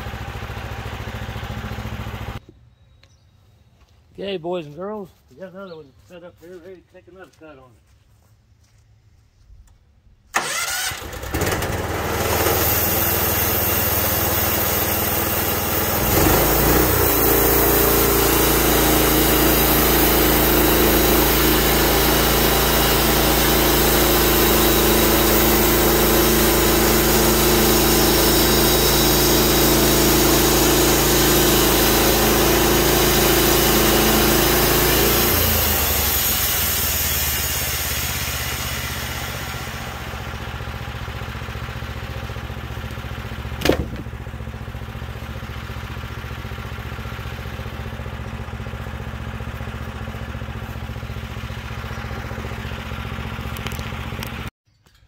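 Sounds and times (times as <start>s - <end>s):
sawmill gasoline engine running: 0.0s - 2.4s, 10.3s - 54.5s.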